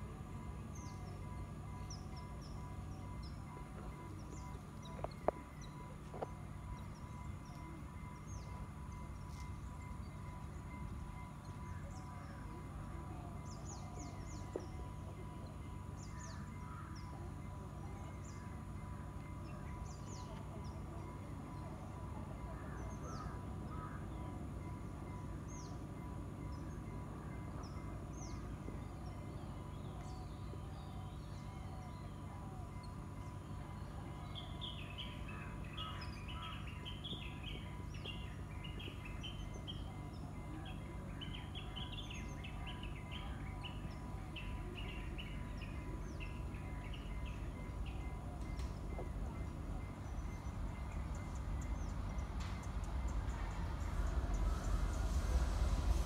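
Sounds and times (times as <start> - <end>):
birds chirping: 0.0 - 55.4
low background rumble: 0.0 - 56.0.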